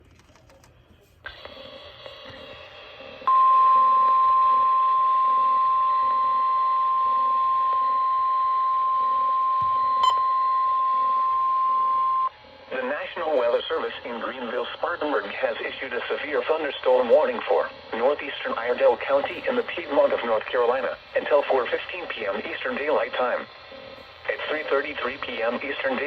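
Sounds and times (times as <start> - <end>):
hissing radio signal: 1.2 - 9.4, 10.0 - 26.0
steady high alarm tone: 3.2 - 26.0.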